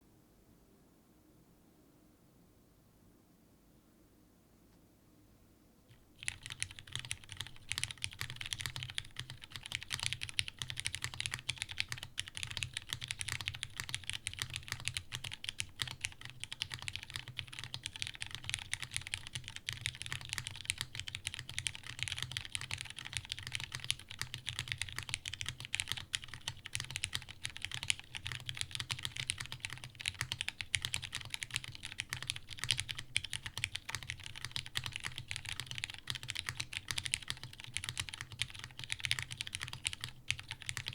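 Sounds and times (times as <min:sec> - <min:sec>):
fast mechanical keyboard typing: 0:06.2 - 0:40.9.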